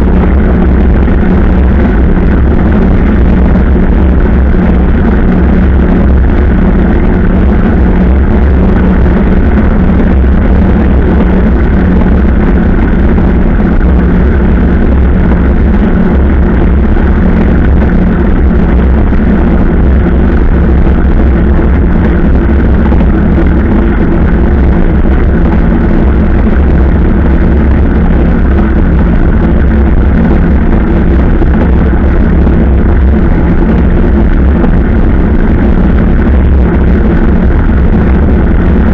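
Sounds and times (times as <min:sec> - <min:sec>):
heavy low rumble: 0:00.0 - 0:38.9
vehicle engine drone: 0:00.0 - 0:38.9.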